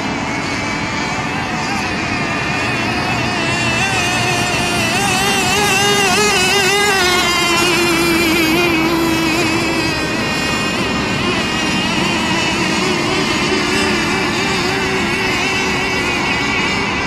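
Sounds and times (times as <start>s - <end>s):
racing boat engines whining: 0.0s - 17.0s.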